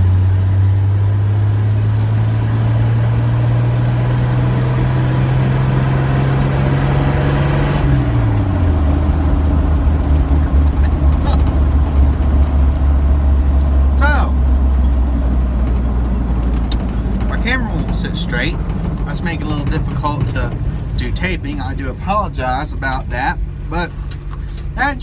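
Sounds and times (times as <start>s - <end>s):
road noise: 0.0s - 25.0s
vehicle engine droning: 0.0s - 25.0s.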